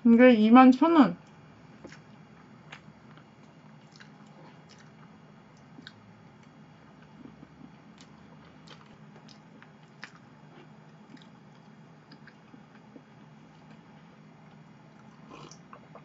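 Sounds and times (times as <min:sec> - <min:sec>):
faint low hum: 0:00.0 - 0:16.0
chewing and mouth sounds: 0:01.8 - 0:13.9, 0:14.5 - 0:16.0.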